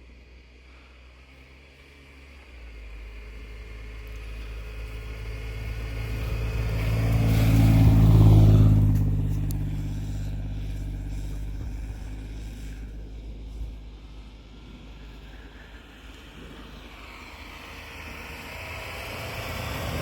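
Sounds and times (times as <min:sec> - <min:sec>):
car driving past: 0:01.8 - 0:20.0.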